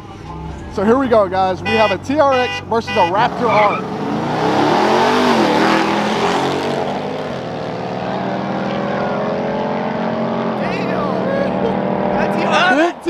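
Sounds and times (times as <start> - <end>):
truck engines accelerating: 0.0 - 13.0.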